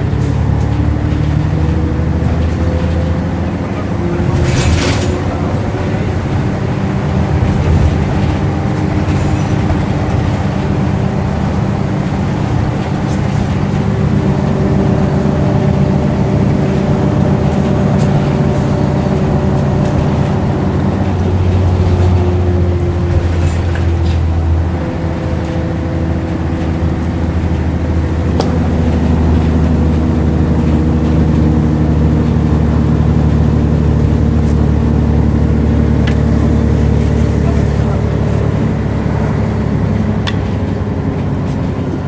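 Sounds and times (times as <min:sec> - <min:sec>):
bus engine drone: 0:00.0 - 0:42.0
road noise: 0:00.0 - 0:42.0.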